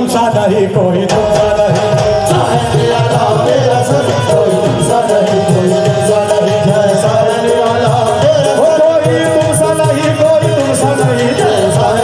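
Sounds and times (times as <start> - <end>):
harmonium melody: 0.0 - 12.0
tabla rhythm: 0.0 - 12.0.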